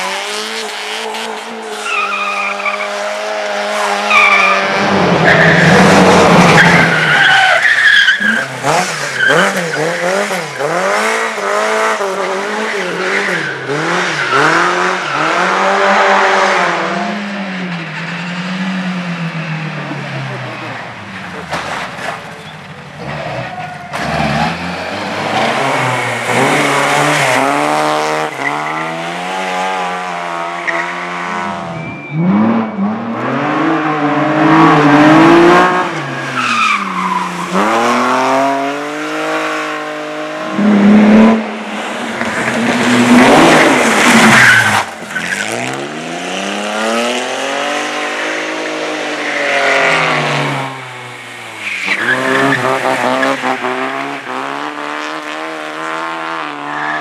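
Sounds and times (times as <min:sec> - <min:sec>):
racing car engine at full throttle: 0:00.0 - 0:57.0
tyres skidding: 0:00.0 - 0:57.0.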